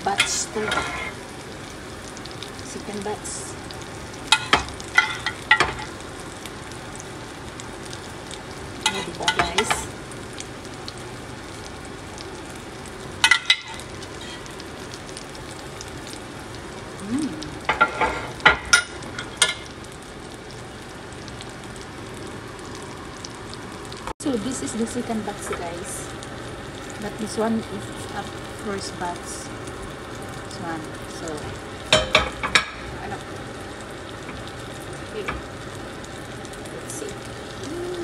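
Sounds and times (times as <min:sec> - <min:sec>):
oil sizzling in a frying pan: 0:00.0 - 0:38.0.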